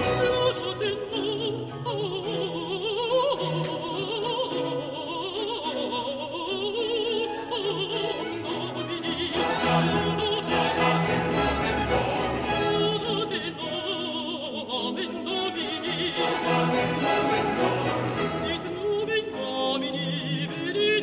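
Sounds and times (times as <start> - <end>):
contralto singing with vibrato: 0.0 - 21.0
strings and continuo: 0.0 - 21.0.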